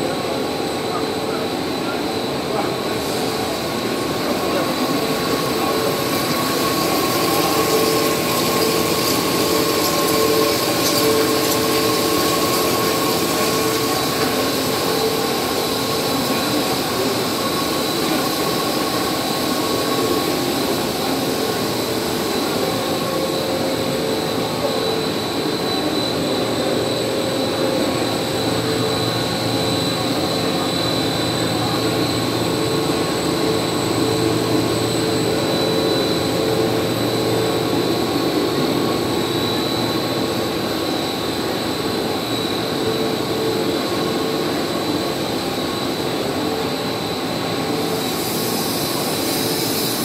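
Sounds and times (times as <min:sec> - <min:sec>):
constant high tones: 0:00.0 - 0:50.0
production line machinery running: 0:00.0 - 0:50.0.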